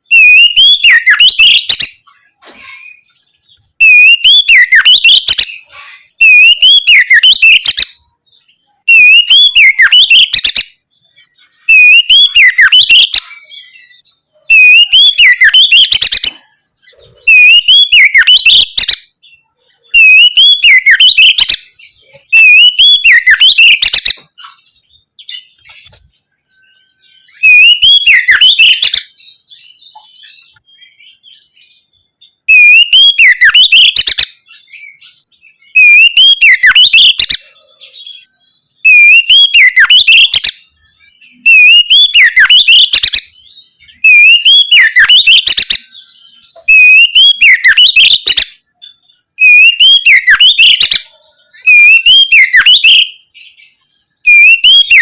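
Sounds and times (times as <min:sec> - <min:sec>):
bird singing whistled phrases: 0:00.0 - 0:55.0.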